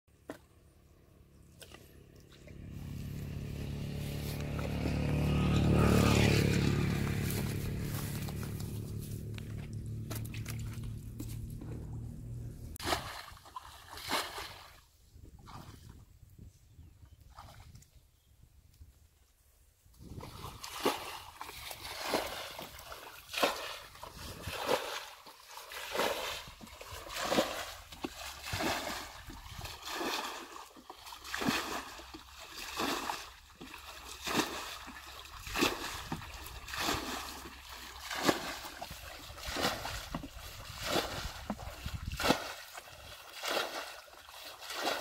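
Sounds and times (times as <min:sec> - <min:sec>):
muddy water splashing: 0:00.1 - 0:16.0, 0:20.0 - 0:45.0.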